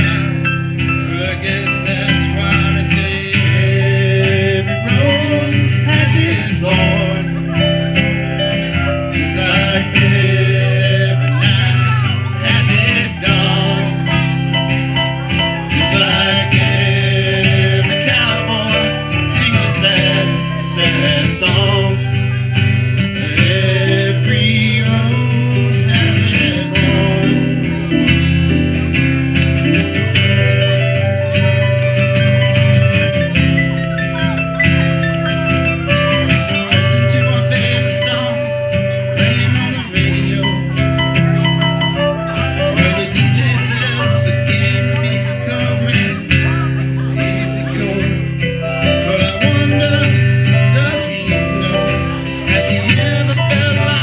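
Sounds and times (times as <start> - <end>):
acoustic guitars playing: 0.0 - 54.0
low bass part: 0.0 - 54.0
person singing: 0.0 - 54.0.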